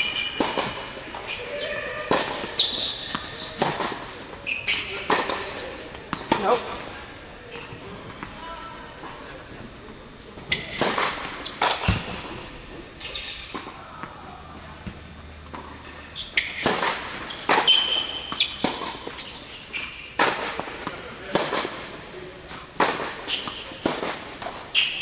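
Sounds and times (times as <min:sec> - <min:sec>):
tennis balls hit and bouncing: 0:00.0 - 0:06.9, 0:10.4 - 0:25.0.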